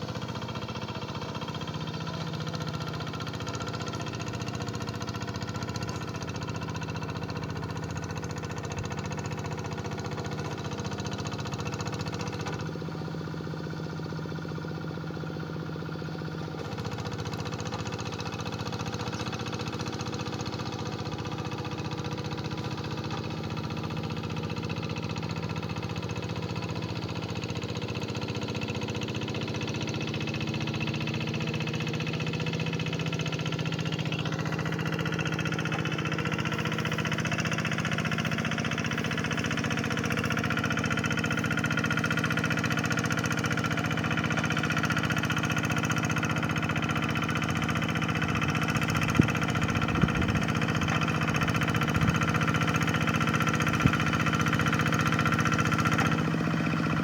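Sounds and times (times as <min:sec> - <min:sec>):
hand tractor engine running: 0:00.0 - 0:12.8, 0:16.4 - 0:57.0.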